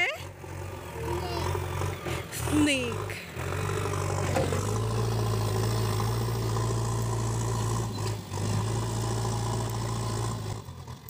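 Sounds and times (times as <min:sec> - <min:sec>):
engine running with low hum: 0:00.0 - 0:11.0.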